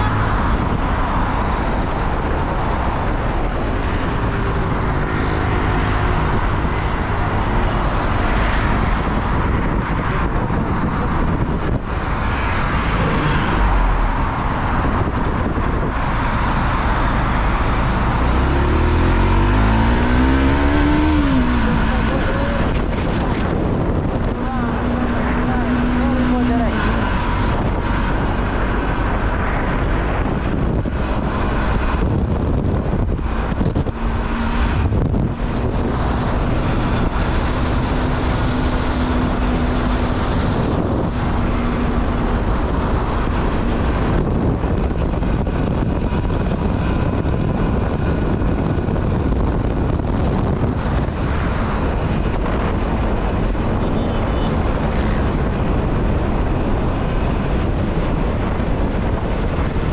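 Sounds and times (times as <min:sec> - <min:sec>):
vehicle road noise: 0:00.0 - 0:59.9
wind over microphone: 0:00.0 - 0:59.9.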